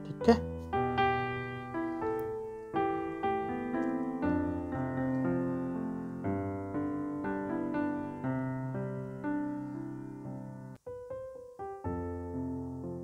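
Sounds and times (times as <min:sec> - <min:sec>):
electric piano melody: 0:00.0 - 0:13.0.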